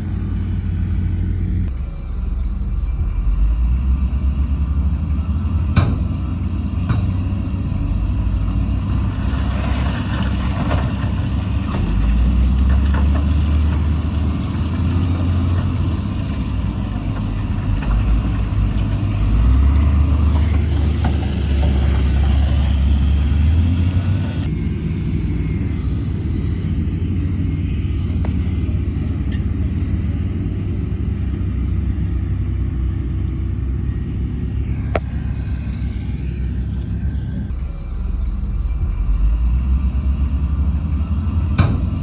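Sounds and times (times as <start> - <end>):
diesel machinery rumbling: 0.0 - 42.0.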